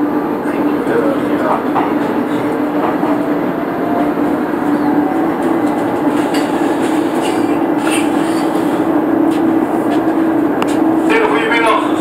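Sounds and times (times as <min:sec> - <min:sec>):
metro car running hum: 0:00.0 - 0:12.0
rumbling rail noise: 0:00.0 - 0:12.0.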